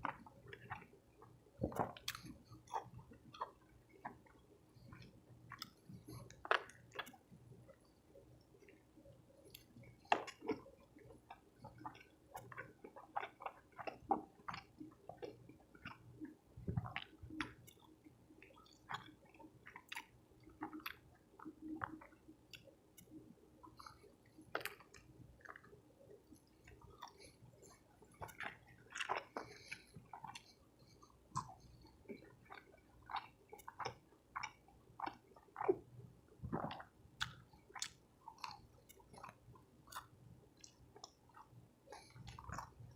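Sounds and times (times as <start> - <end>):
person chewing food: 0.0 - 8.0, 8.6 - 42.9.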